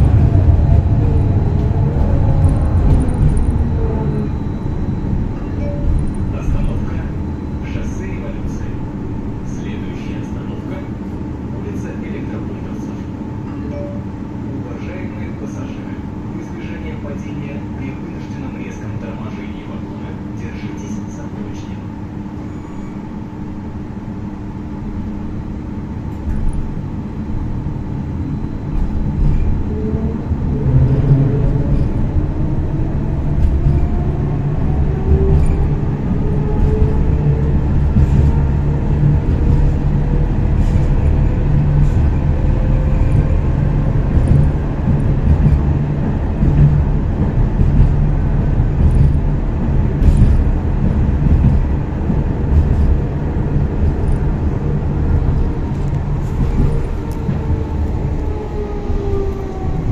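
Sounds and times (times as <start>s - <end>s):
wheels rumbling on rails: 0.0s - 15.9s, 24.5s - 59.9s
tram electric drive whine: 0.0s - 59.9s.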